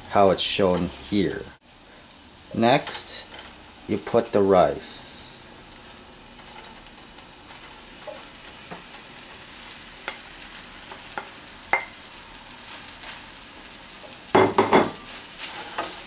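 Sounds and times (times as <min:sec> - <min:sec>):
frying pan sizzling: 0:00.0 - 0:16.0.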